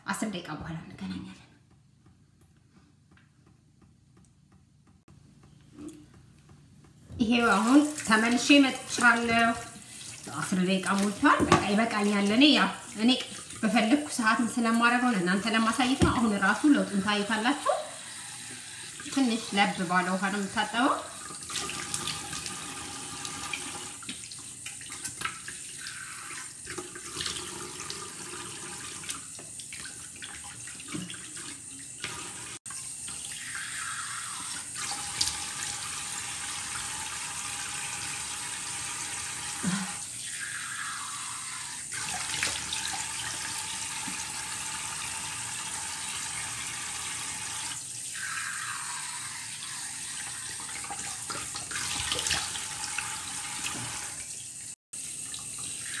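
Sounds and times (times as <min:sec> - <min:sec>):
tap water running into sink: 0:07.2 - 0:40.0, 0:41.9 - 0:56.0.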